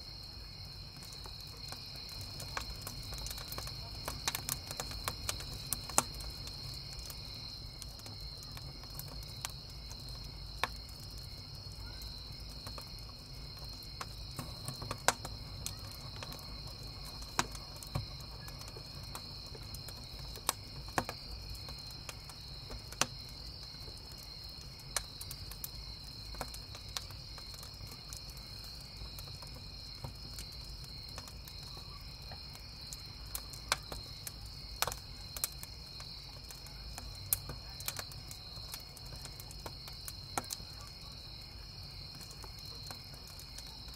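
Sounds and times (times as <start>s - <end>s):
campfire crackling and popping: 0.0s - 43.9s
crickets chirping: 0.0s - 43.9s.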